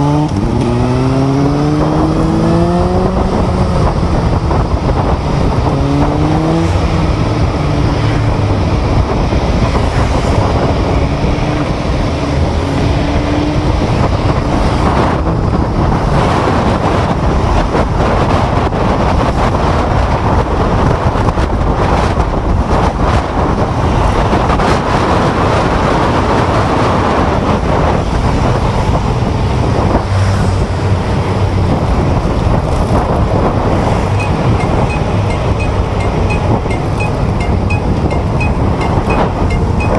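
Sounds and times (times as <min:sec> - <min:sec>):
pitched engine hum: 0:00.0 - 0:39.9
road and traffic noise: 0:00.0 - 0:39.9
wind on microphone: 0:00.0 - 0:39.9.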